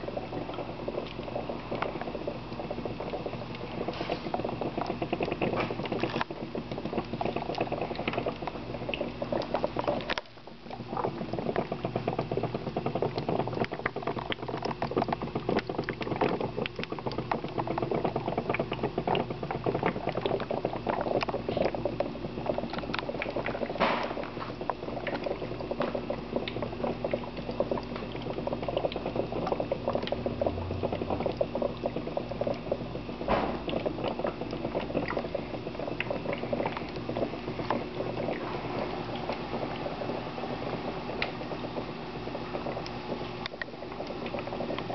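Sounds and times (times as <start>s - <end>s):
gas bubbling through water: 0.0s - 44.9s.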